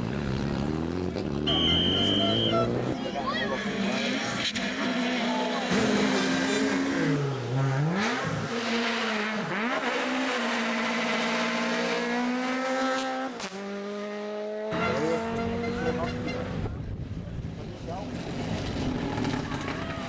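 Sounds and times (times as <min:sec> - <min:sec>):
rally car engine revving: 0:00.0 - 0:16.9.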